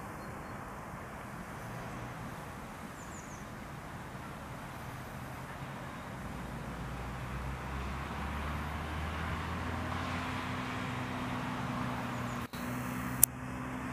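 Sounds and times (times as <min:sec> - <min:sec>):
distant road traffic: 0:00.0 - 0:13.9.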